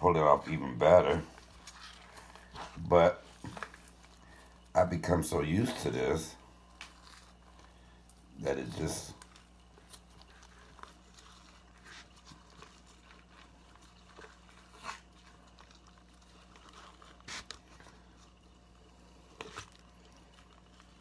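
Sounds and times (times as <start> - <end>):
low steady hum: 0.0 - 21.0
rustles and wet clicks: 0.0 - 21.0.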